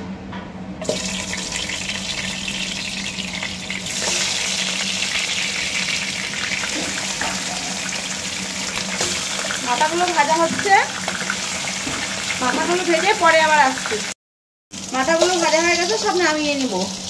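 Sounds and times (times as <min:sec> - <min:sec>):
fish sizzling in hot oil: 0:00.9 - 0:14.2, 0:14.8 - 0:17.0.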